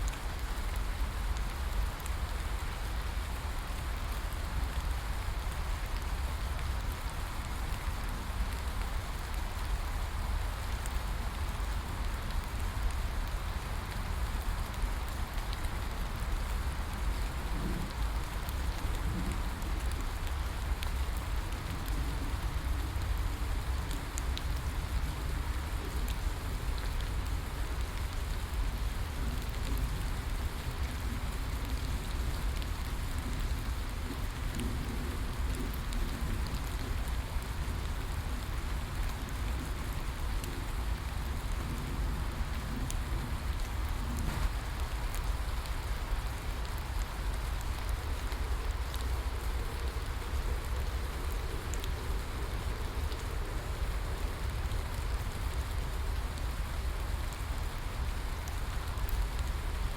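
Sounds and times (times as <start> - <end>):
rain falling: 0.0 - 59.9
raindrop ticks: 0.0 - 59.9.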